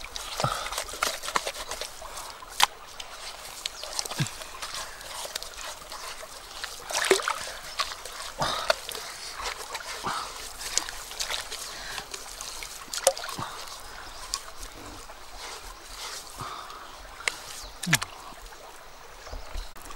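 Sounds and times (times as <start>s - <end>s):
wet mud squelches and splashes: 0.0s - 18.8s
water trickling and plopping: 0.0s - 19.9s.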